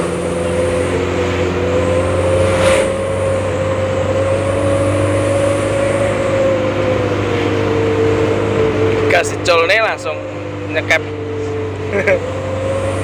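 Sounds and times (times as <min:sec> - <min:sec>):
exhaust whine: 0:00.0 - 0:13.0
van engine: 0:00.0 - 0:13.0.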